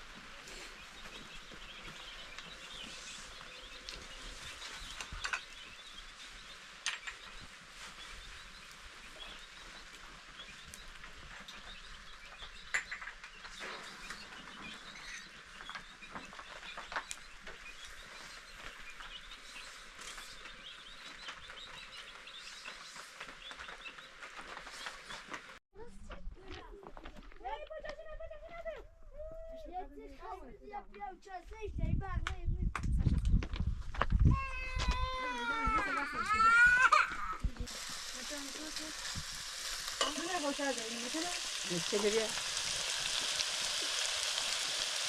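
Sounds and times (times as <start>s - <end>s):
small birds chirping: 0.0s - 25.6s, 34.2s - 45.0s.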